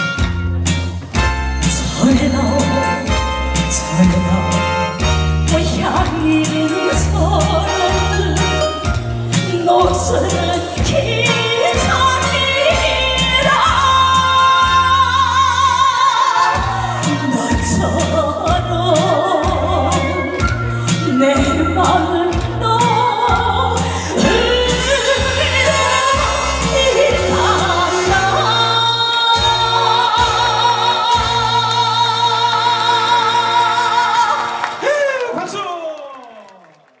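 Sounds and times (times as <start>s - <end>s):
woman singing with vibrato: 1.6s - 34.9s.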